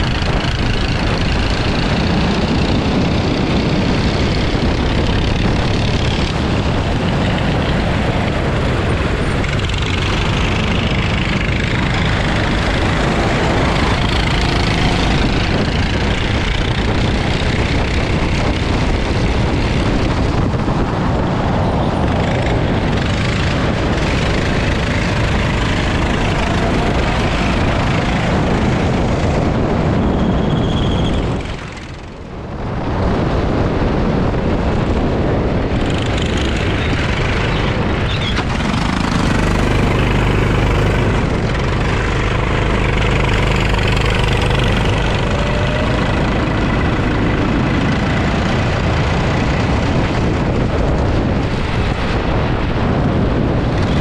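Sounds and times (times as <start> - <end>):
go-kart engine running hard: 0.0 - 54.0
wind buffeting microphone: 0.0 - 54.0.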